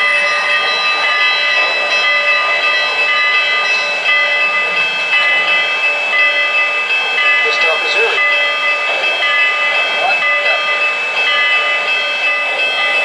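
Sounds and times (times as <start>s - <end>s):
model train running: 0.0s - 13.0s
steady high tones: 0.0s - 13.0s.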